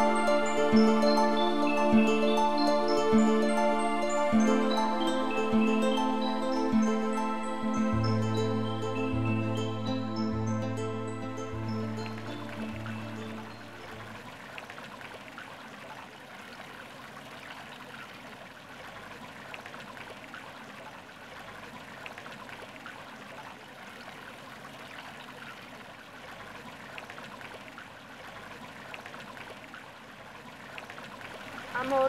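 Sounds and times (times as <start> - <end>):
fountain water splashing: 0.0 - 32.0.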